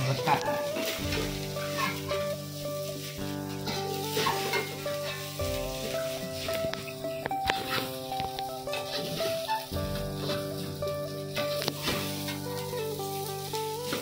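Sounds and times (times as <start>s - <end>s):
metal spatula scraping a wok: 0.0s - 14.0s
rice sizzling in a pan: 0.0s - 14.0s.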